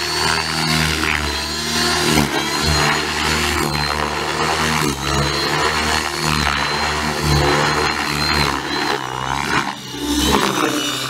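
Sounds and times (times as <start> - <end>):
rc helicopter motor whine: 0.0 - 11.0
rotor whoosh: 0.4 - 11.0.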